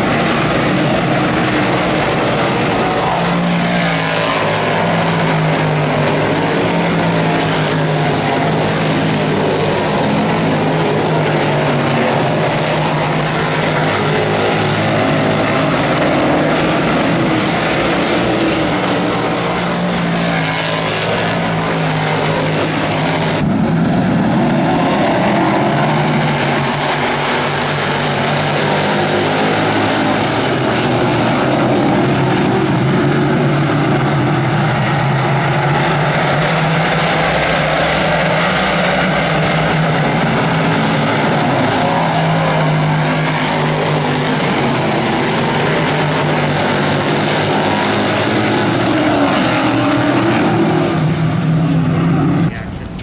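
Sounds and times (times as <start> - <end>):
race car engines droning: 0.0 - 53.0.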